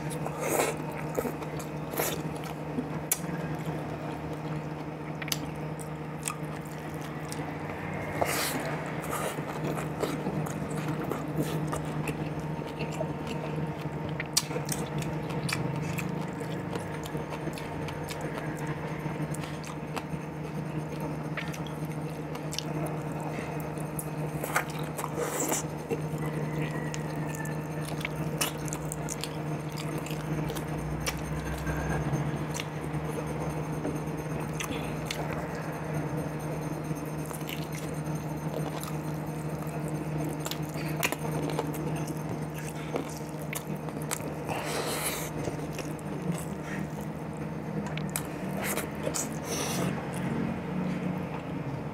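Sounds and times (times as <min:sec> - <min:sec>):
chewing with wet mouth clicks: 0:00.0 - 0:07.5, 0:08.1 - 0:31.8, 0:33.8 - 0:35.6, 0:37.1 - 0:50.3
steady low hum: 0:00.0 - 0:51.9.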